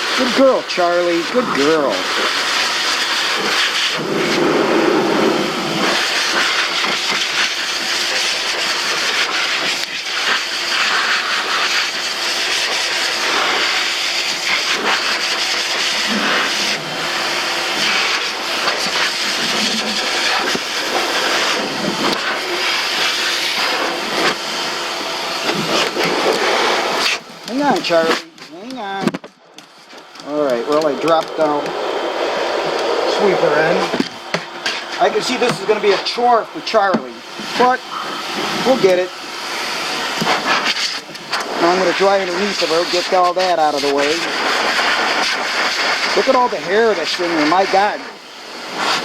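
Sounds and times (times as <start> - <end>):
pet dryer blowing air: 0.0 - 49.0.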